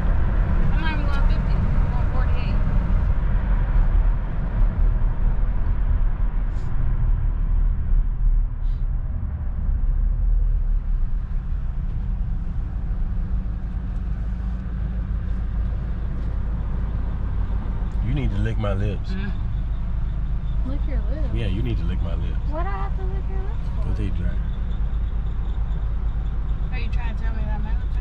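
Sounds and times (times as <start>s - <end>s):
car engine rumble: 0.0s - 28.0s
road noise inside car: 0.0s - 28.0s.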